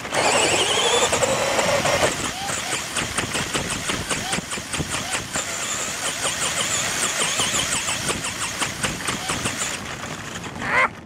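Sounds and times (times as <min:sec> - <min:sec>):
electric motor whining: 0:00.0 - 0:09.8
chassis and tyres rattling: 0:00.0 - 0:11.0.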